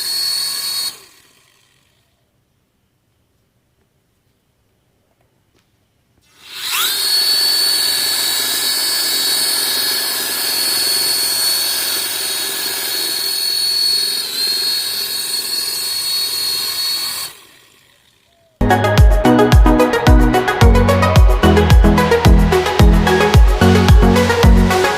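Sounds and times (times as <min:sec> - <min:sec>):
drone motors high-pitched whine: 0:00.0 - 0:02.0, 0:06.3 - 0:24.9.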